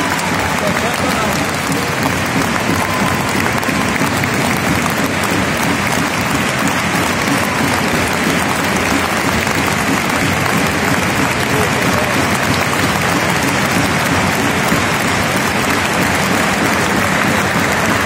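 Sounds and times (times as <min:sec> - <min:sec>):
stadium crowd applauding: 0:00.0 - 0:18.0.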